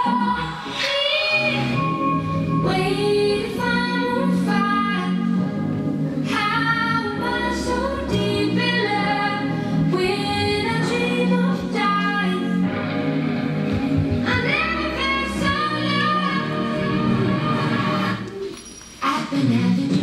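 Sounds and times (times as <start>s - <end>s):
low steady accompaniment: 1.6s - 18.5s.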